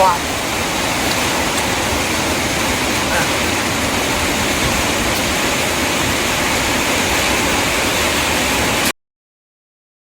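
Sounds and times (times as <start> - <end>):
loud rushing noise: 0.2 - 8.9.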